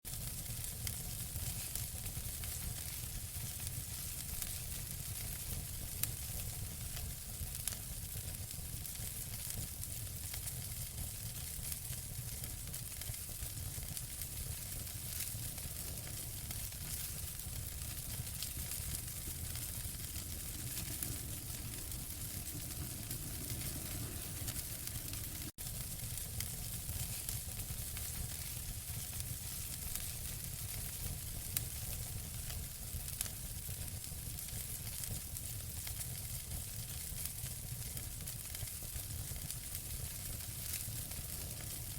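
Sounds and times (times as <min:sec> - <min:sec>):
low rumble of flames: 0:00.1 - 0:41.9
wood fire crackling and popping: 0:00.1 - 0:41.9.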